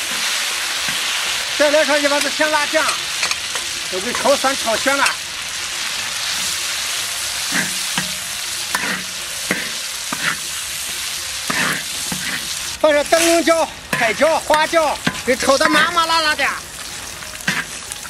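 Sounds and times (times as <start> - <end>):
metal ladle scraping wok: 0.0 - 16.0, 17.4 - 18.0
paste sizzling in hot oil: 0.0 - 18.0.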